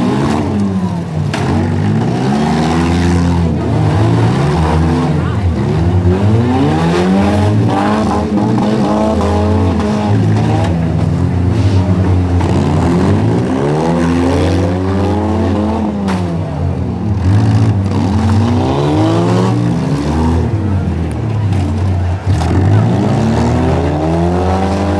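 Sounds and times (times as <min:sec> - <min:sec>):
car engines revving: 0:00.0 - 0:24.9.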